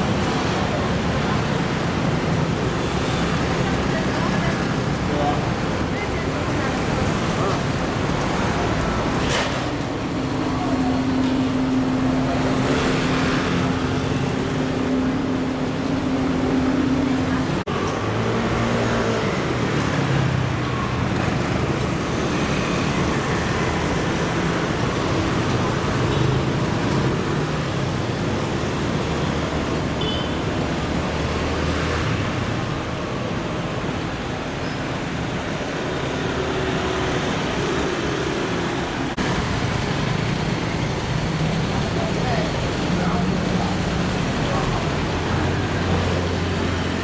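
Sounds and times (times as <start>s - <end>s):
city traffic rumble: 0.0s - 47.0s.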